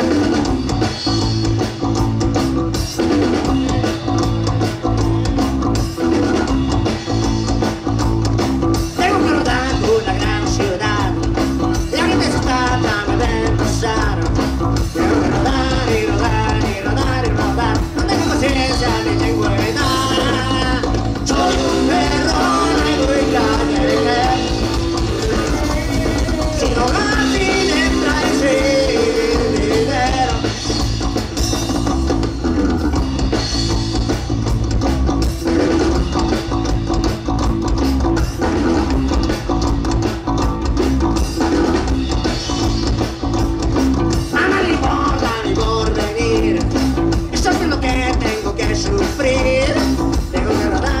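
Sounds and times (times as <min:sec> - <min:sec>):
rock band playing: 0:00.0 - 0:51.0.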